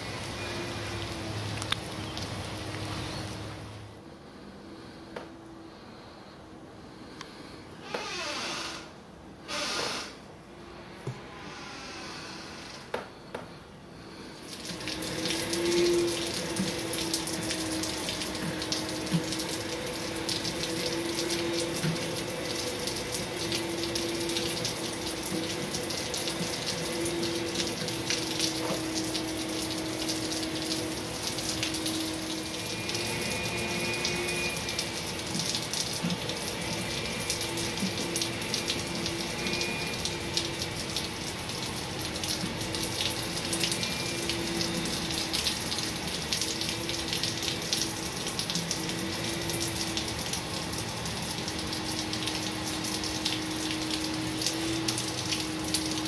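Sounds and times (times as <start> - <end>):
rain splashing on pavement: 0.0 - 3.8, 14.4 - 56.0.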